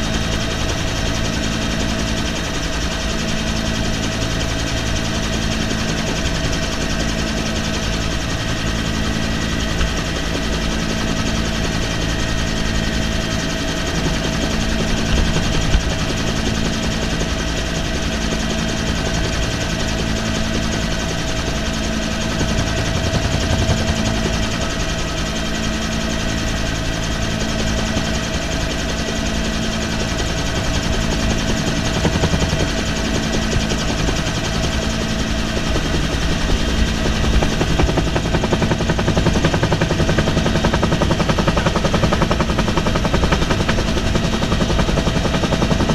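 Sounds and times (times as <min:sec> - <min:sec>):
helicopter rotor thudding: 0:00.0 - 0:45.9
turbine whine: 0:00.0 - 0:45.9.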